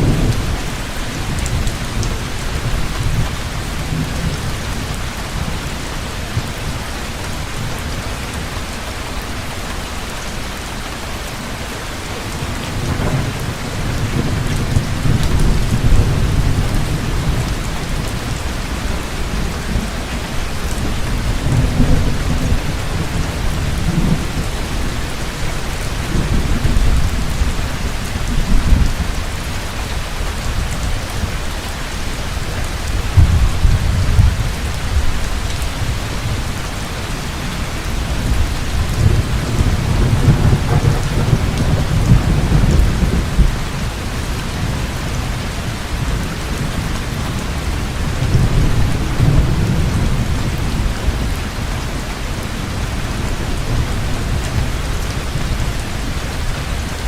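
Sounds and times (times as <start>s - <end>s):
low thunder rumbling: 0.0s - 6.9s, 12.3s - 31.4s, 32.3s - 57.0s
heavy rain pouring: 0.0s - 57.0s.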